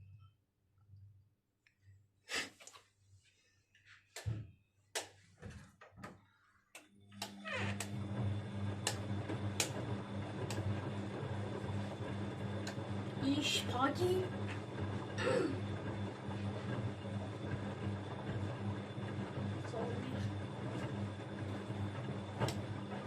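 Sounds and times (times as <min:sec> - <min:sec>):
washing machine running: 0:04.2 - 0:23.0.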